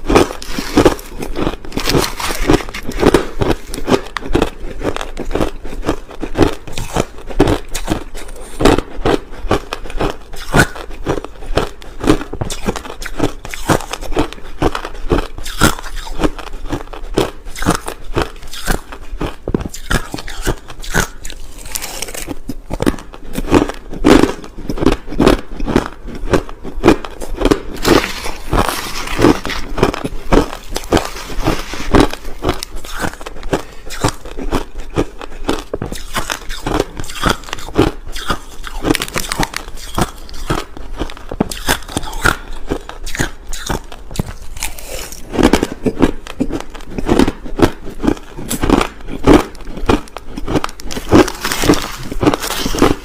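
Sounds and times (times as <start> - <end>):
person crunching ice: 0.0 - 53.0.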